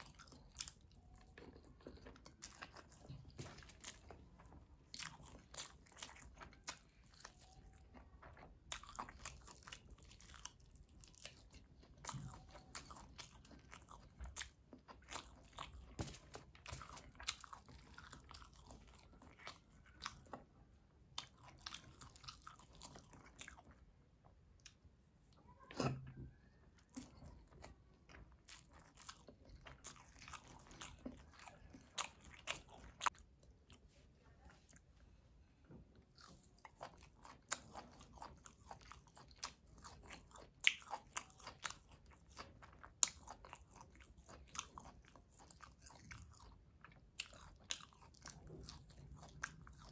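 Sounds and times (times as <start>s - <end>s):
person chewing with mouth smacks: 0.0s - 26.1s, 26.8s - 35.0s, 35.9s - 49.9s.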